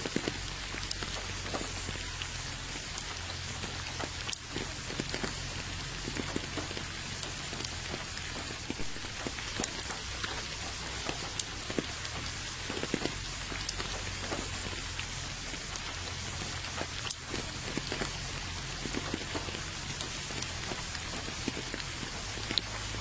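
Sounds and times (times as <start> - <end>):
rain falling into puddles: 0.0 - 23.0.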